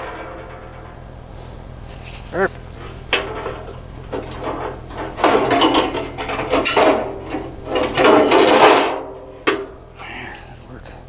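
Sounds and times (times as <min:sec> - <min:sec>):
metal scraping and clattering: 0:00.0 - 0:01.3, 0:01.9 - 0:10.0.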